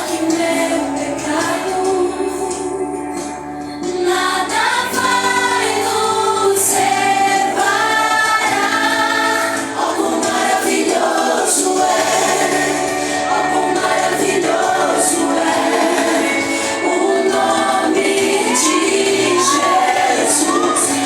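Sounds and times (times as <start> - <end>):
group singing in harmony: 0.0 - 21.0
instrumental backing: 0.0 - 21.0.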